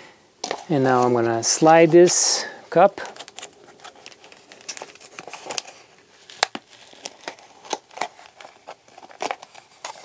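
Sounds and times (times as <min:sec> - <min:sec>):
plastic cup crinkling: 0:00.4 - 0:10.0.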